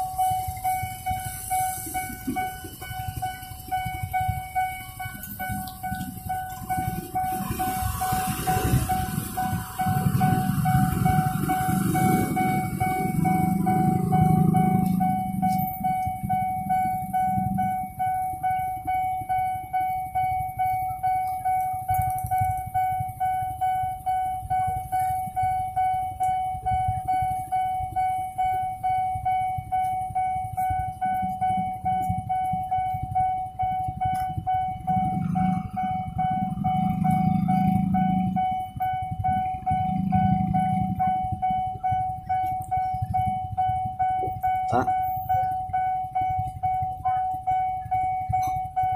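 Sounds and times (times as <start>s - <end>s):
level crossing warning bell: 0.0s - 48.9s
motorcycle and car engines: 0.0s - 48.9s.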